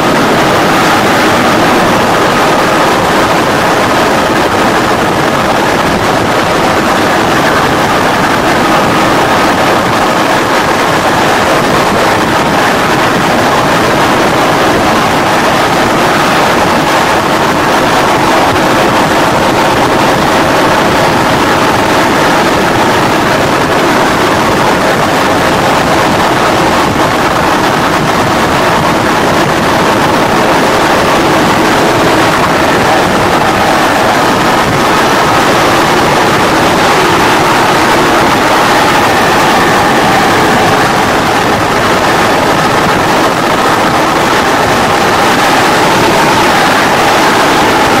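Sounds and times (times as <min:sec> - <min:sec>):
helicopter engine and rotor: 0:00.0 - 0:48.0.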